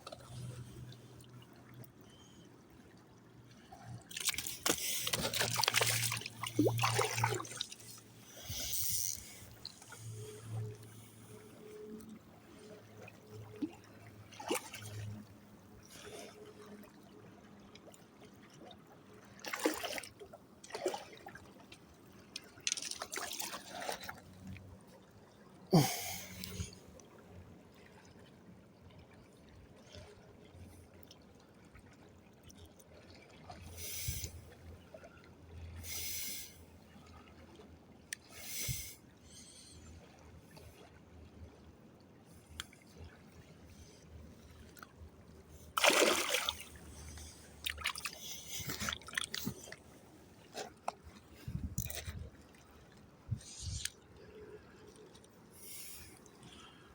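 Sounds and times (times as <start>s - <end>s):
water splashing and trickling: 0.0s - 56.9s.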